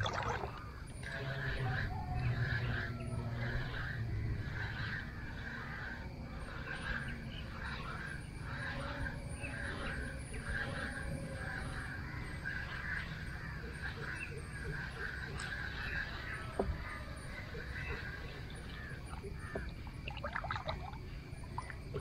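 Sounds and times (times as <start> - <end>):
birds calling: 0.0 - 22.0
high insect whine: 0.0 - 22.0.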